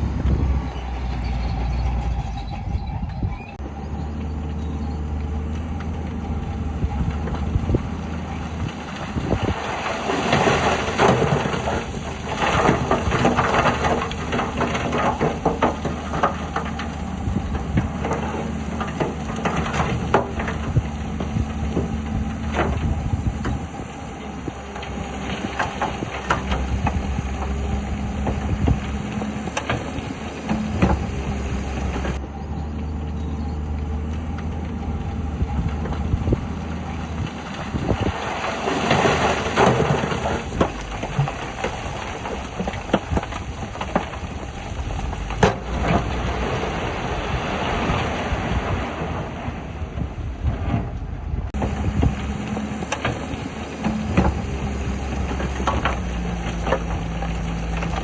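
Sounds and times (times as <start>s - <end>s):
diesel engines running: 0.0s - 58.0s
machinery clanks and knocks: 6.8s - 47.2s, 50.0s - 58.0s.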